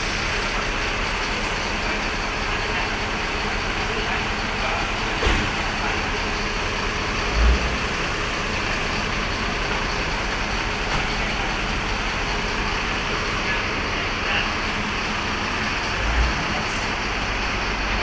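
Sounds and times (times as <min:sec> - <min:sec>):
traffic noise: 0:00.0 - 0:18.0.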